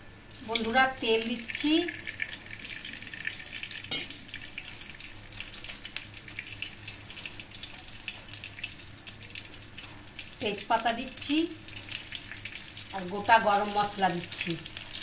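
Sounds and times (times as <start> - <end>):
low steady hum: 0.0 - 15.0
oil crackling and sizzling: 0.0 - 15.0.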